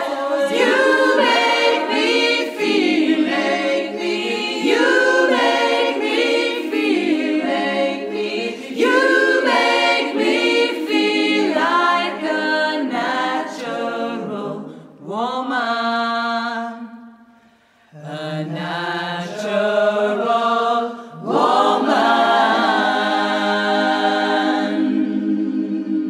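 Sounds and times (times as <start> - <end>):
women's vocal group singing in harmony: 0.0 - 26.0.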